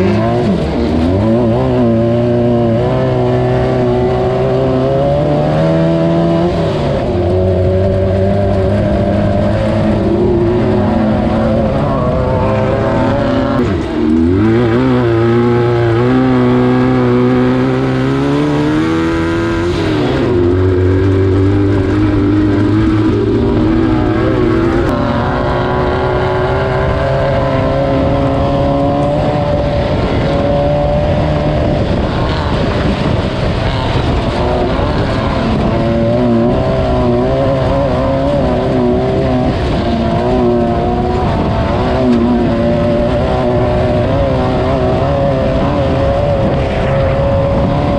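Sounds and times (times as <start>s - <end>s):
buggy engine revving: 0.0s - 47.9s.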